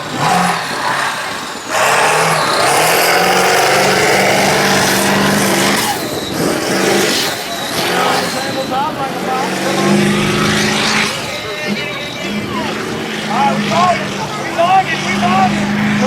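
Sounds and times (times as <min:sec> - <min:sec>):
truck engine at full throttle: 0:00.0 - 0:16.0.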